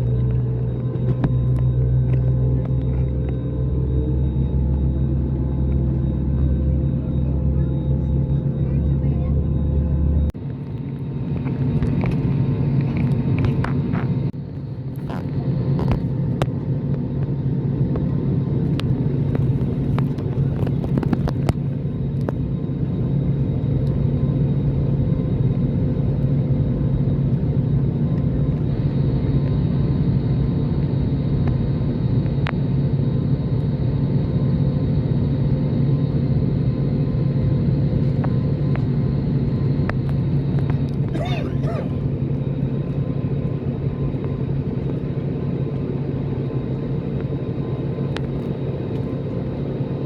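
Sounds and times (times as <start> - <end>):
jet engines droning in cabin: 0.0 - 50.0.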